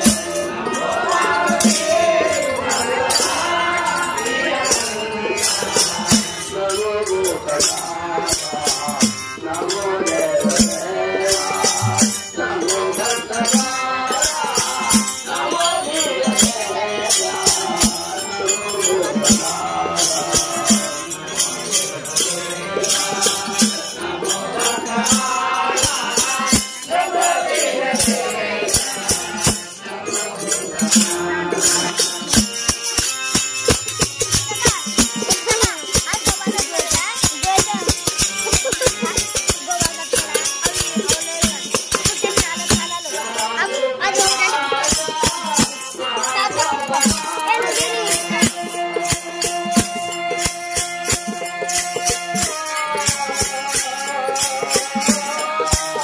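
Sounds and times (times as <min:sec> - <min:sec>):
group singing devotional song: 0:00.0 - 0:56.0
harmonium: 0:00.0 - 0:56.0
jingling hand clappers: 0:00.0 - 0:56.0.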